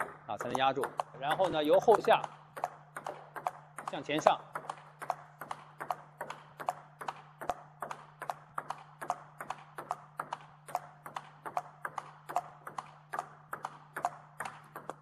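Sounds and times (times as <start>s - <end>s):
table tennis ball clicks: 0.0s - 15.0s.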